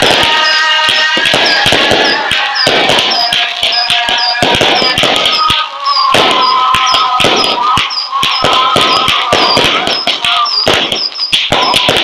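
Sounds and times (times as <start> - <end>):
fireworks bangs and crackles: 0.0 - 12.0
thin whistling tone: 0.3 - 12.0.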